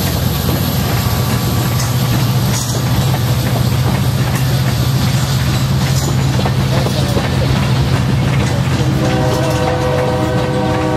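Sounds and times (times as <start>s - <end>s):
clicking over rail joints: 0.0s - 10.9s
freight train wheels rumbling: 0.0s - 10.9s.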